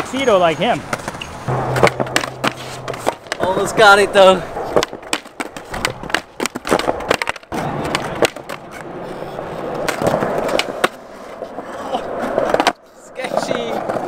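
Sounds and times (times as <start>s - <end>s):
skateboard wheels rolling on concrete: 0.0s - 14.0s
skateboard clacks: 0.8s - 14.0s
skateboard grinding metal edge: 1.0s - 13.0s.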